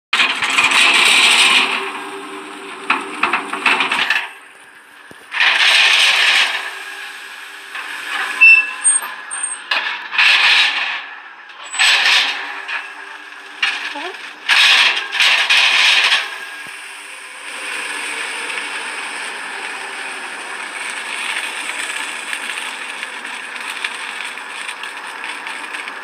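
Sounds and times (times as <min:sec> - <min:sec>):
fish sizzling and crackling: 0:00.4 - 0:10.7, 0:11.7 - 0:26.0.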